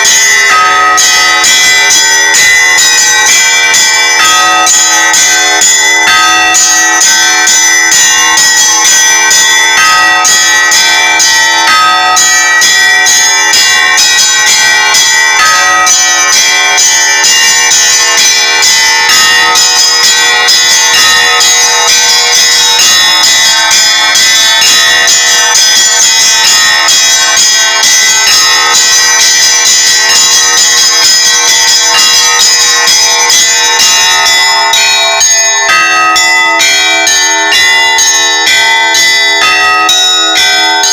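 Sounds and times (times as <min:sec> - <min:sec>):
large bells ringing: 0:00.0 - 0:40.9
small bells struck quickly: 0:00.0 - 0:40.9.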